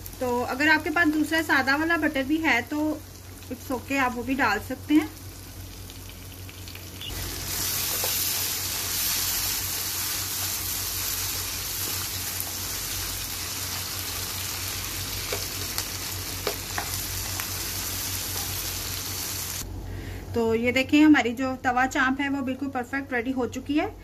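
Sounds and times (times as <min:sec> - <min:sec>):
beef sizzling in a pan: 0:00.0 - 0:19.6.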